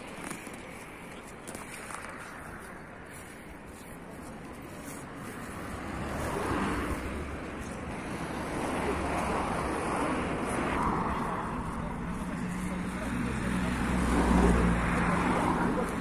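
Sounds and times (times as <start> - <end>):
traffic rumble on bridge: 0.0 - 16.0
vehicle passing: 0.0 - 16.0.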